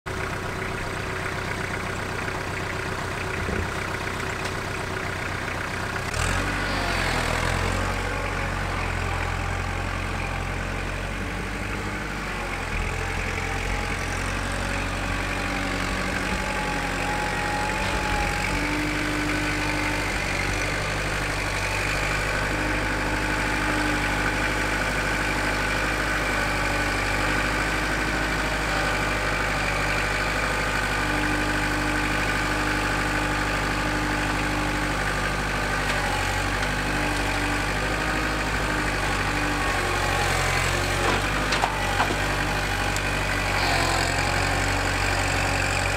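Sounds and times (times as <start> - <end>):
tractor diesel engine running: 0.1 - 45.9.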